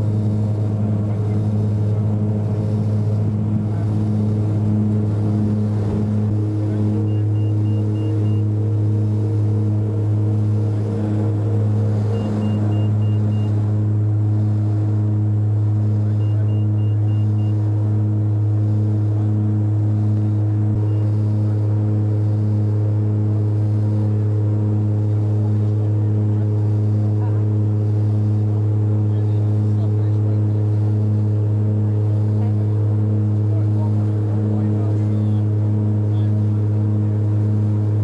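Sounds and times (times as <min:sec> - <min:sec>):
airliner engine drone: 0:00.0 - 0:38.0.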